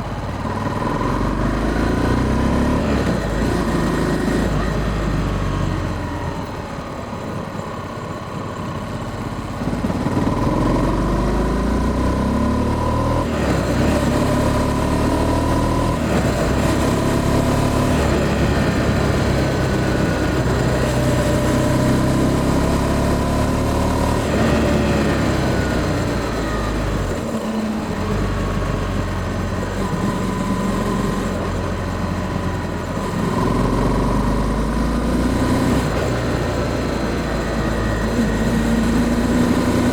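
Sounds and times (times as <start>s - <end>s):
motorcycle engine revving: 0.0s - 6.7s, 9.4s - 39.9s.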